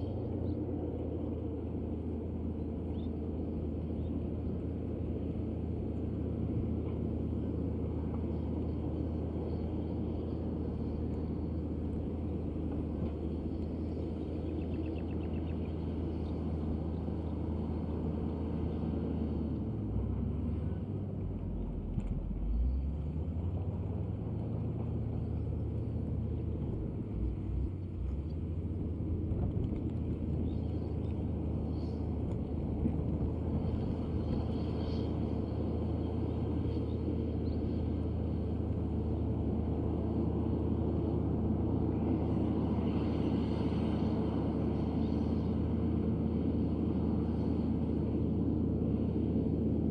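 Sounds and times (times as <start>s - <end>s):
bulldozer diesel engine rumbling: 0.0s - 49.9s.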